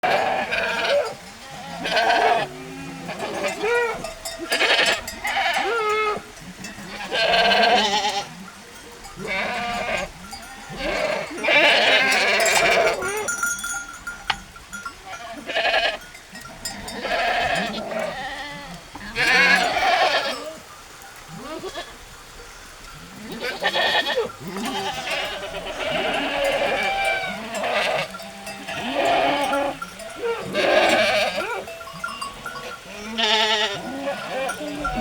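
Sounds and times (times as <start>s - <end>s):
sheep bleating: 0.0s - 8.5s, 9.1s - 13.4s, 15.0s - 20.5s, 23.2s - 35.0s.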